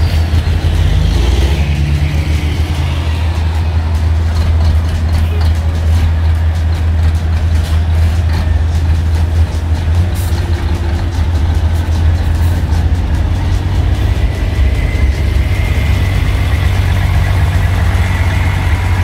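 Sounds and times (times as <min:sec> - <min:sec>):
diesel truck engine at low revs: 0:00.0 - 0:19.0.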